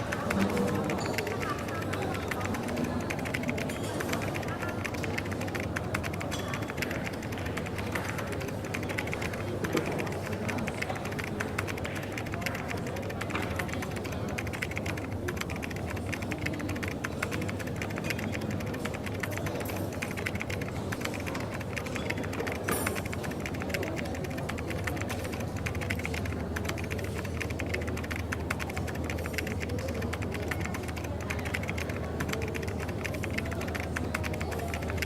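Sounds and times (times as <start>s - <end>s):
coffee shop background hum: 0.0s - 35.0s
typing on computer keyboard: 0.0s - 35.0s.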